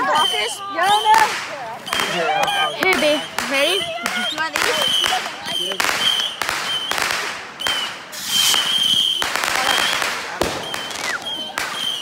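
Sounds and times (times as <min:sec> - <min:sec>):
fireworks banging and crackling: 0:00.0 - 0:12.0.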